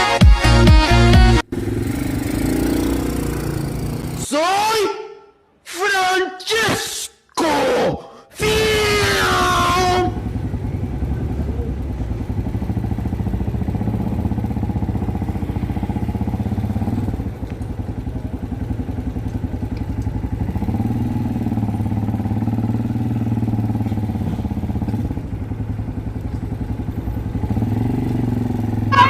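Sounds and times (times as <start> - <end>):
motorcycle engine running: 1.3 - 4.2, 8.4 - 29.0.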